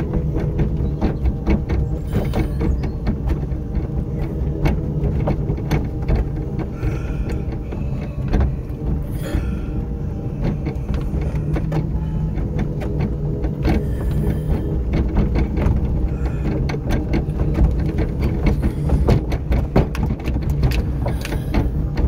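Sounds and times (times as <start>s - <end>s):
clicks and rattles: 0.0s - 22.0s
small vehicle motor humming: 0.0s - 22.0s.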